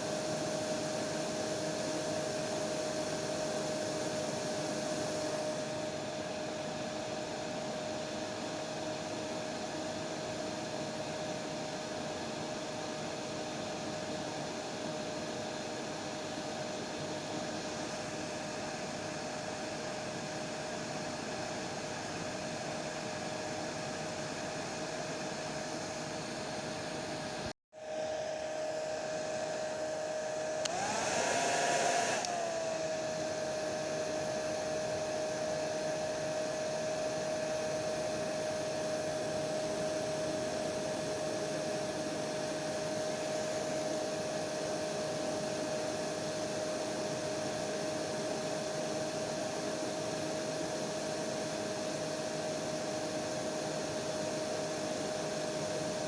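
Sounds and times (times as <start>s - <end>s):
hair dryer whooshing with whine: 0.0s - 56.0s.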